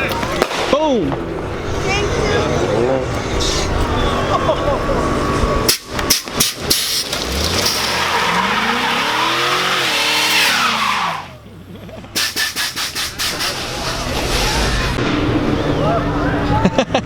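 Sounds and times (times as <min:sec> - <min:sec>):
tires squealing: 0:01.3 - 0:16.9
car engine revving: 0:01.4 - 0:16.6.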